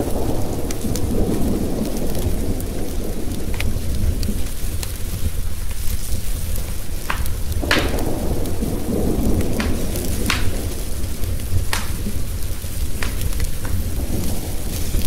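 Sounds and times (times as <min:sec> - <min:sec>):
rain hissing: 0:00.0 - 0:15.0
thunder rumbling: 0:00.0 - 0:15.0
wood fire crackling and popping: 0:00.0 - 0:15.0.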